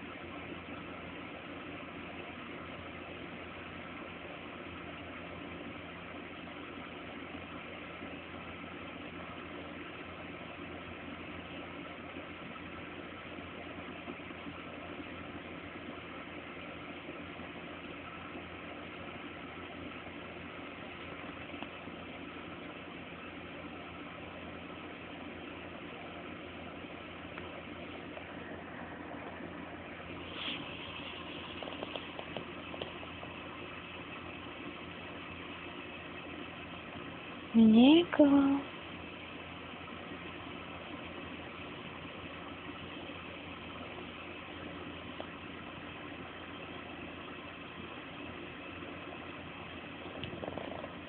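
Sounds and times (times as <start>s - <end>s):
steady background hum and hiss: 0.0s - 51.0s.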